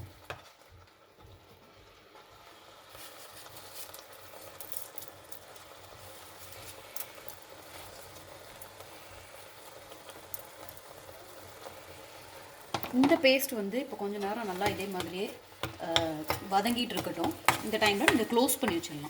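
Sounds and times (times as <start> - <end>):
crackles and pops: 0.0 - 19.0
spice paste sizzling in oil: 0.0 - 19.0.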